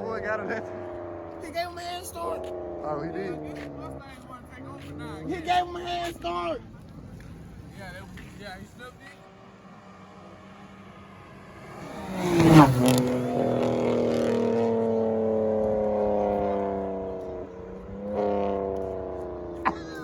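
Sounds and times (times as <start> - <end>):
car engine accelerating past: 0.0 - 20.0.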